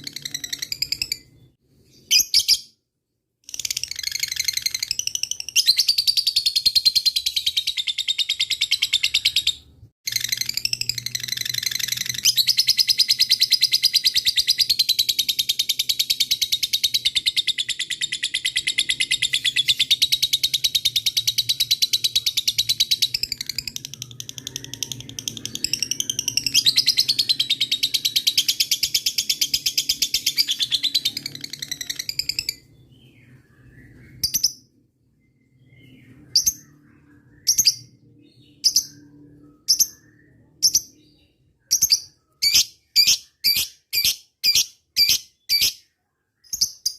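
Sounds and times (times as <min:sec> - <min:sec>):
lovebird sharp chirps: 0:00.0 - 0:02.8, 0:03.4 - 0:34.7, 0:35.6 - 0:46.9.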